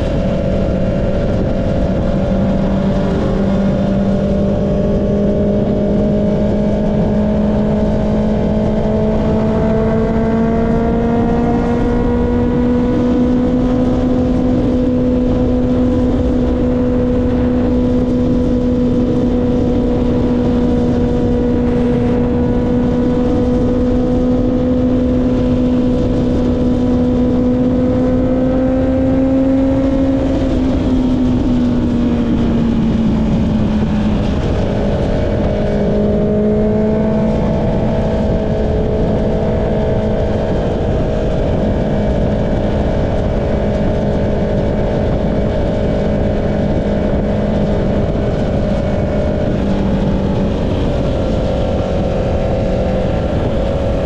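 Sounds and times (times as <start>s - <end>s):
motorcycle engine cruising: 0.0s - 54.0s
wind rushing: 0.0s - 54.0s.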